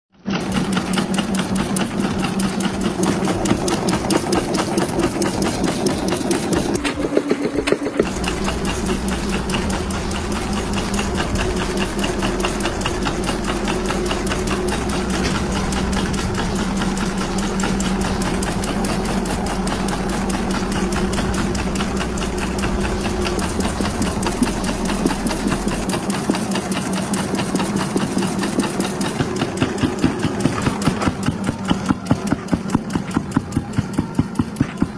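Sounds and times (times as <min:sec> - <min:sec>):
machine mechanical clatter: 0:00.2 - 0:34.9
motor hum: 0:00.2 - 0:34.9
deeper hum: 0:02.6 - 0:32.1.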